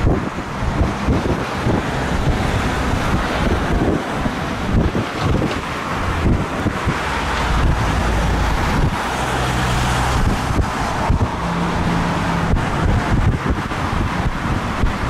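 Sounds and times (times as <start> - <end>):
jet engine rumble: 0.0 - 15.0
wind buffeting microphone: 0.0 - 15.0.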